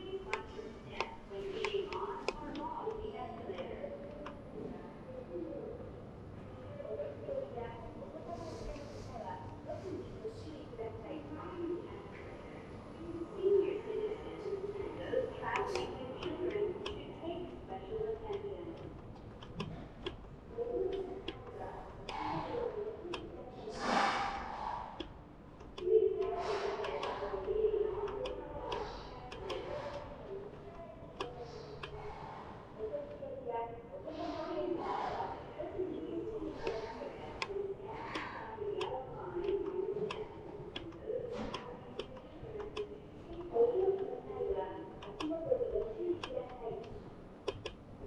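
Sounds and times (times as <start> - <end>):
faint voices: 0.0 - 48.0.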